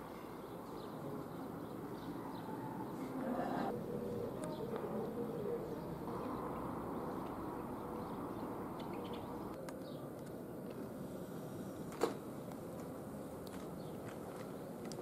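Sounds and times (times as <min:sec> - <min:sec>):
distant street traffic: 0:00.0 - 0:15.0.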